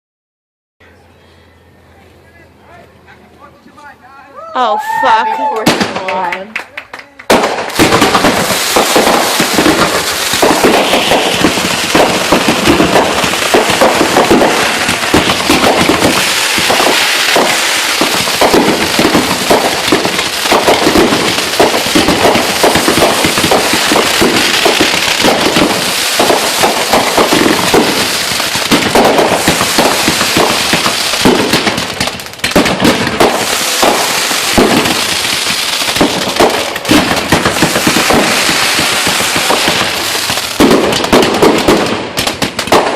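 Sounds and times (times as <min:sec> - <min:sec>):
fireworks bangs and crackling: 0:04.8 - 0:42.9.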